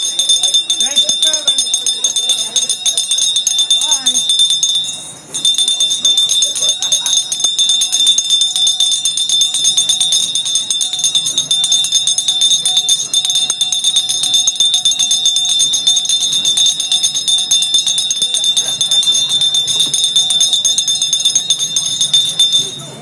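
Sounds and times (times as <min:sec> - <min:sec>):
bells jingling: 0:00.0 - 0:23.0
steady high ring: 0:00.0 - 0:23.0.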